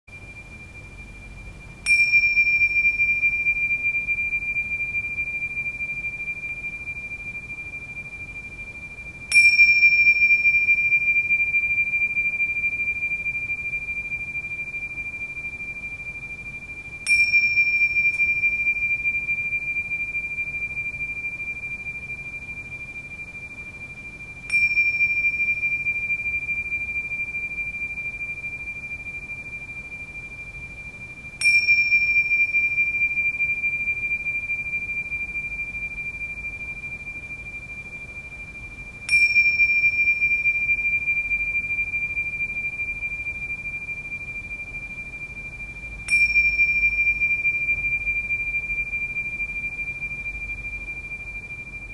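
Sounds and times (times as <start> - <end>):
small cymbals clashing and ringing: 0.1 - 51.9.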